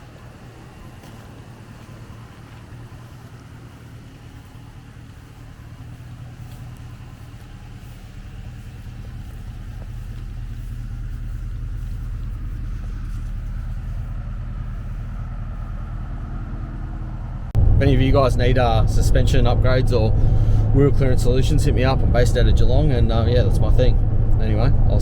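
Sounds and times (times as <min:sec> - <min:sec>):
pickup truck engine running: 0:00.0 - 0:25.0.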